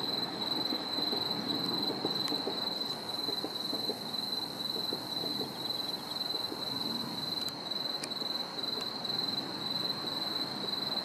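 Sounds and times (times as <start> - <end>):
crickets trilling: 0.0 - 11.0
faint background noise: 0.0 - 11.0.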